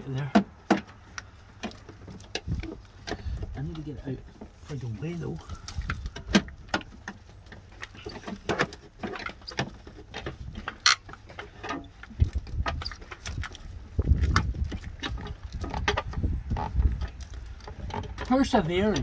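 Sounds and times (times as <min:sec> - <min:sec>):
clicks and rustling of hands working: 0:00.0 - 0:19.0.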